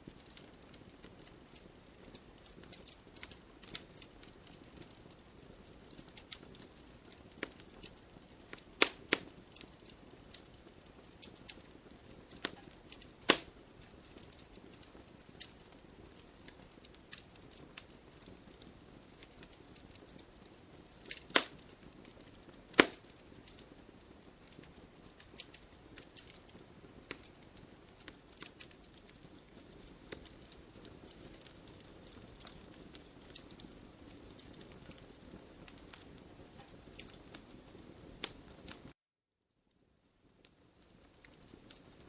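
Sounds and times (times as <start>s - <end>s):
campfire wood crackling: 0.0s - 39.0s, 39.7s - 42.0s
loud fire snaps: 0.0s - 39.0s, 40.2s - 42.0s
low steady hiss: 0.0s - 42.0s.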